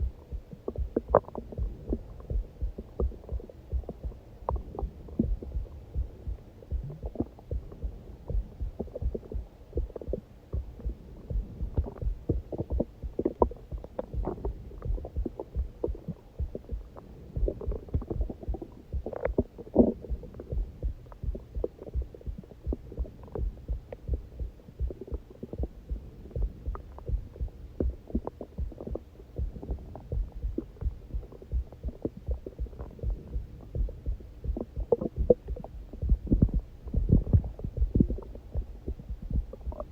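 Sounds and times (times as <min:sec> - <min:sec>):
heartbeat thumping: 0:00.0 - 0:39.9
stomach growling: 0:00.0 - 0:39.9.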